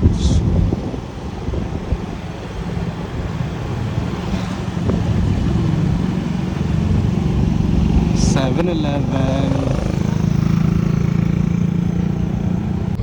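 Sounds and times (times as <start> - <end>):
motorcycle engine running: 0.0 - 13.0
road noise: 0.0 - 13.0
wind noise: 0.0 - 13.0.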